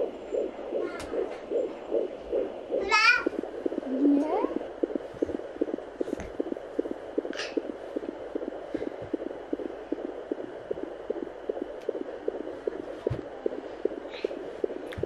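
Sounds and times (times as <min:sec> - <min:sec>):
doppler hiss: 0:00.0 - 0:15.0
fast fetal heartbeat: 0:00.0 - 0:15.0.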